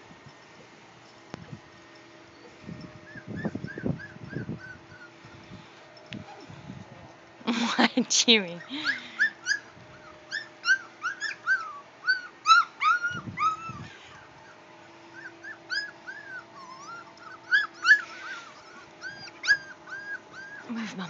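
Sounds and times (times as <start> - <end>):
puppies whimpering and yipping: 0.6 - 6.6, 8.6 - 21.0.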